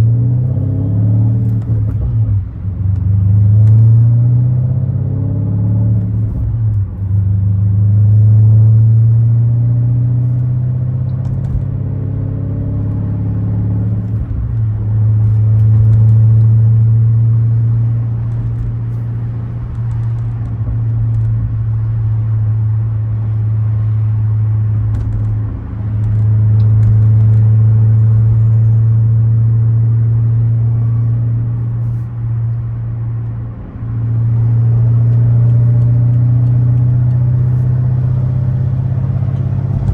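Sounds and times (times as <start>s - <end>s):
car engine deep drone: 0.0s - 39.9s.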